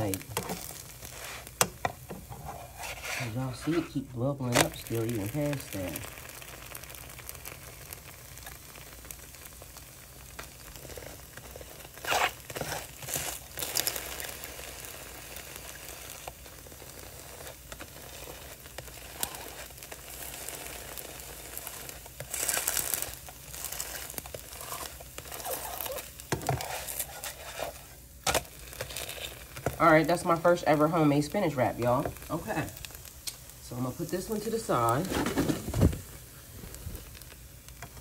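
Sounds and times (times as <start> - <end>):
batter sizzling in frying pan: 0.0 - 38.0.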